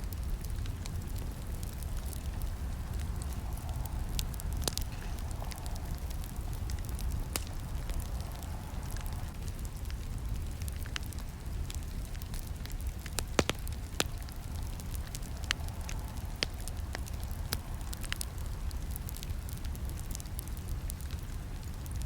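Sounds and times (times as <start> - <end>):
campfire snaps and pops: 0.0 - 22.0
flames rumbling: 0.0 - 22.0.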